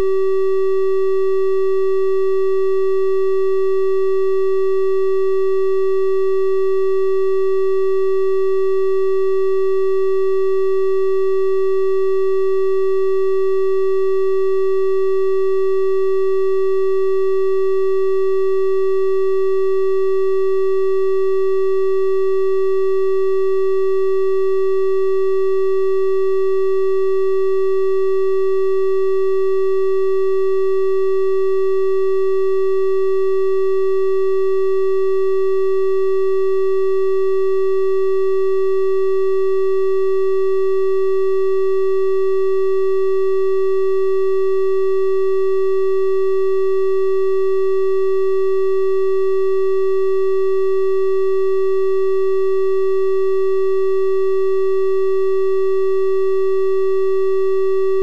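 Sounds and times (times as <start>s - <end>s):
steady triangle-wave tone: 0.0s - 58.0s.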